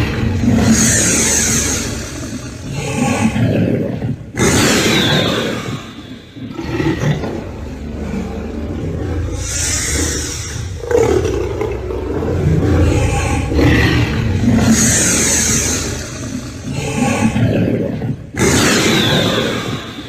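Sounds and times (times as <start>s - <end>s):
monster roars and growls: 0.0s - 20.0s.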